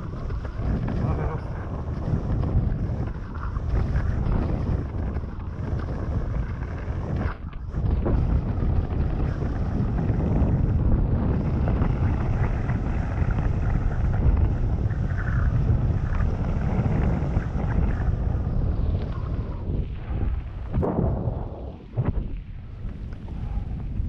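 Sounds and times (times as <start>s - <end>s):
bike rattling over rough ground: 0.0s - 24.0s
wind buffeting microphone: 0.0s - 24.0s.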